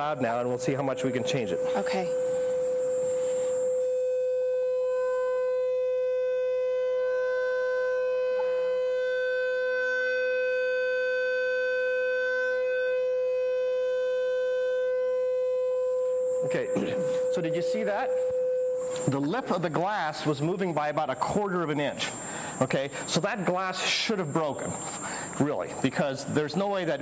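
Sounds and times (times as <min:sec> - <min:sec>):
loud steady loudspeaker tone: 0:00.0 - 0:12.0, 0:15.9 - 0:27.0.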